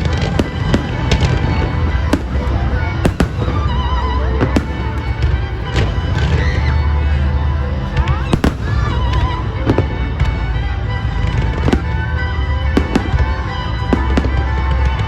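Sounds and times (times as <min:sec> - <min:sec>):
fireworks bangs: 0:00.0 - 0:15.0
loud music: 0:00.0 - 0:15.0.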